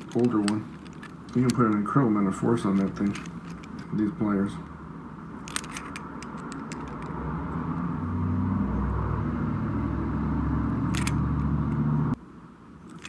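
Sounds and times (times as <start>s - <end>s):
low mechanical rumble with hum: 0.0s - 13.0s.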